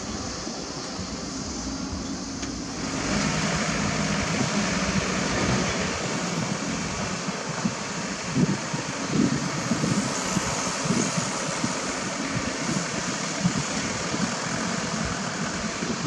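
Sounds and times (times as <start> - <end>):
diesel truck engines running: 0.0 - 16.0.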